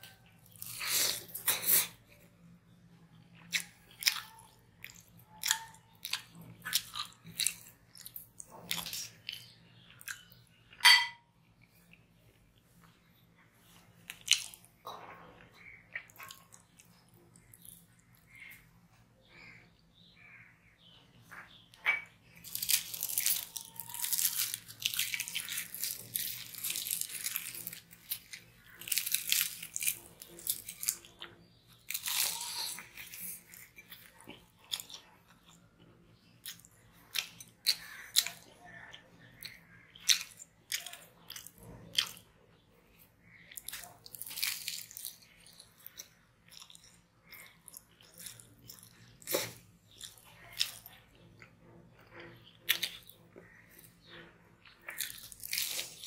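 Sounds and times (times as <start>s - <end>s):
person chewing: 0.0s - 2.2s, 3.3s - 10.8s, 11.5s - 18.6s, 21.4s - 56.0s.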